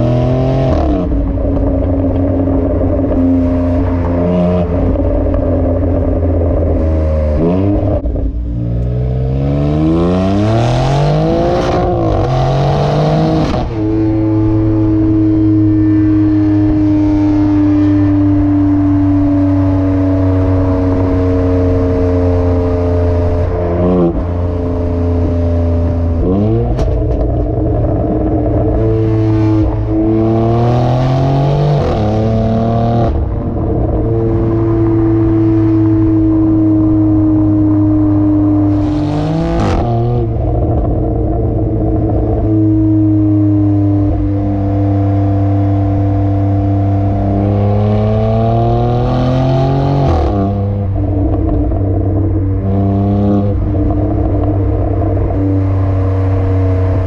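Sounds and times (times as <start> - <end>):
car exhaust droning: 0.0 - 57.0.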